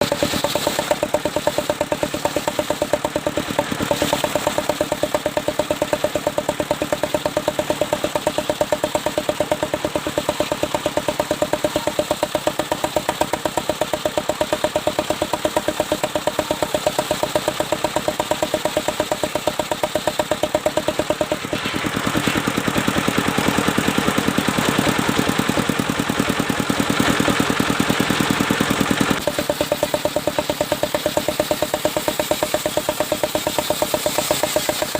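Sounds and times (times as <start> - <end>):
circular blade cutting wood: 0.0 - 25.0, 26.6 - 34.9
sawmill engine knocking: 0.0 - 34.9.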